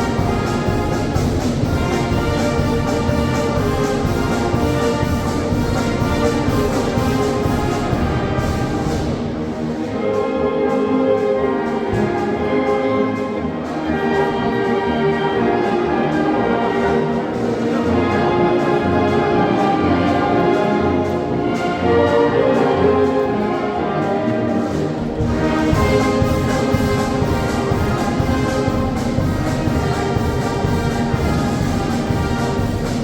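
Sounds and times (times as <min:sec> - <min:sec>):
wind band playing chords: 0:00.0 - 0:33.0.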